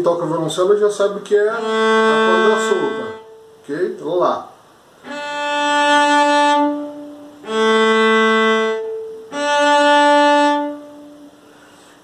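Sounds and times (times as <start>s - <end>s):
cello bowed notes: 0.0s - 4.0s, 4.8s - 11.8s.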